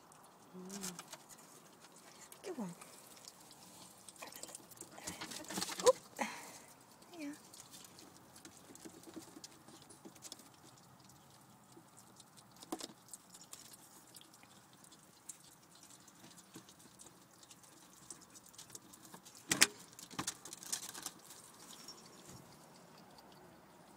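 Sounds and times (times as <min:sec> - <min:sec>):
ferrets chewing raw meat: 0:00.0 - 0:23.9.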